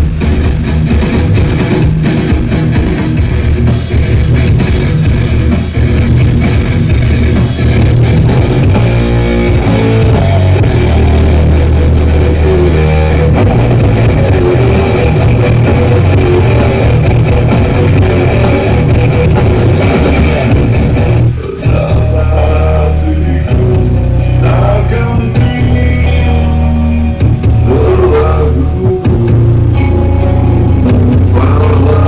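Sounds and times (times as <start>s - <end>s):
loud rock music: 0.0s - 32.0s.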